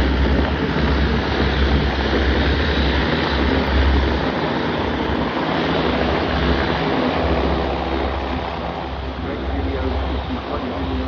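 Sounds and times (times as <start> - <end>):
aircraft engine rushing: 0.0 - 11.0
low rumbling: 0.0 - 11.0.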